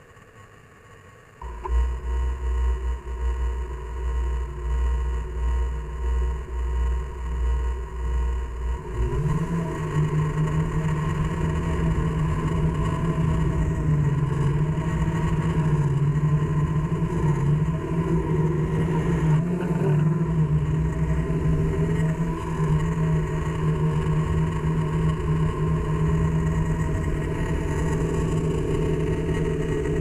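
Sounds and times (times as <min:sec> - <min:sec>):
drone propellers humming: 0:01.4 - 0:30.0
low rumble: 0:01.4 - 0:30.0.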